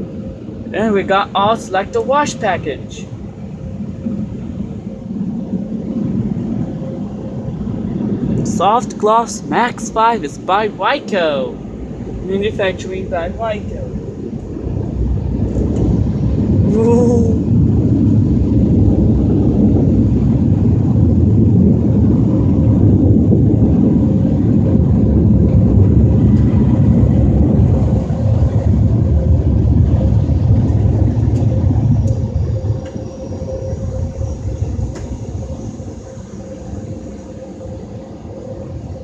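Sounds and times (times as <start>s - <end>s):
car wash dryer blowers rumbling: 0.0s - 39.0s
faint steady hum: 0.0s - 39.0s.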